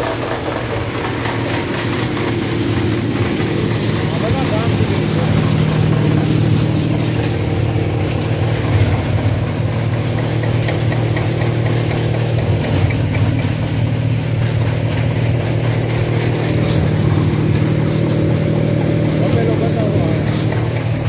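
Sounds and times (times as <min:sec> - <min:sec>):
thresher engine and drum drone: 0:00.0 - 0:21.0.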